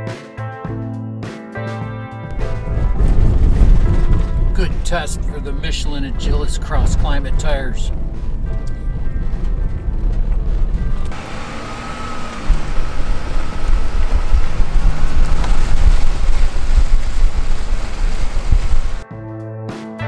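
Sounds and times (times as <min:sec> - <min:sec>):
tire road noise rumble: 0:02.3 - 0:19.0
tire roar and wind rush: 0:02.3 - 0:19.0.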